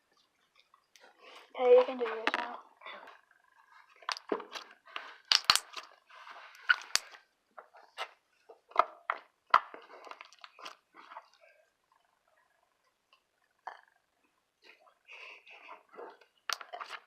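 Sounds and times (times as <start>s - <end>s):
slime squishing with crackles: 0.0s - 17.0s.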